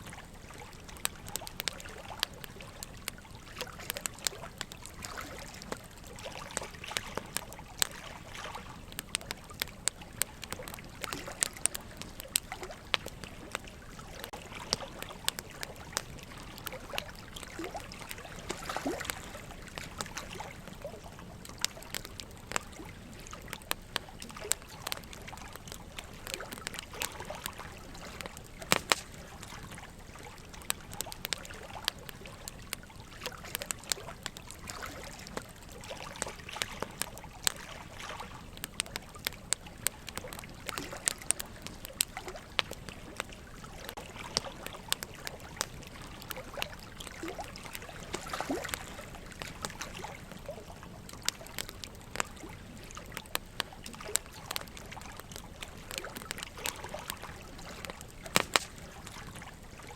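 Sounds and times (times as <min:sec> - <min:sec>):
running water trickling: 0:00.0 - 0:59.9
wood fire crackling and popping: 0:00.0 - 0:59.9.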